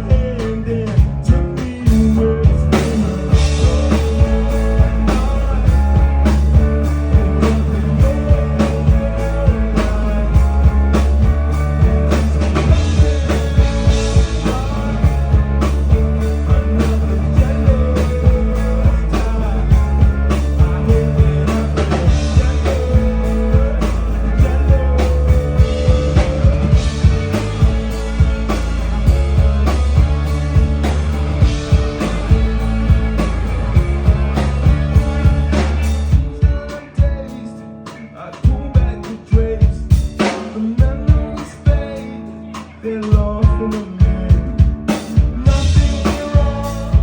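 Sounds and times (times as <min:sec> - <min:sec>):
rock band playing: 0:00.0 - 0:47.0.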